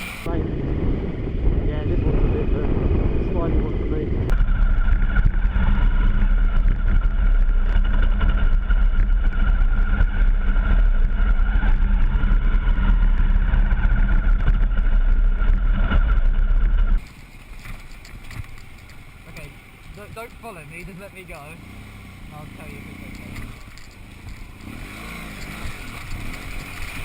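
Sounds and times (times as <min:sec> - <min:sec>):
wind buffeting microphone: 0:00.0 - 0:21.7
motorcycle engine running: 0:00.0 - 0:27.0.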